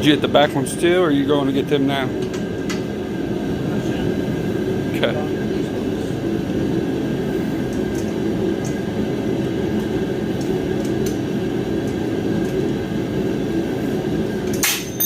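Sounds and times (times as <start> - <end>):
space heater low rumble: 0.0 - 15.0.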